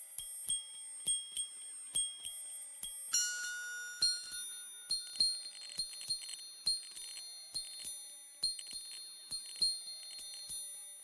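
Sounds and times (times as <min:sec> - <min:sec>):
steady very high tone: 0:00.0 - 0:11.0.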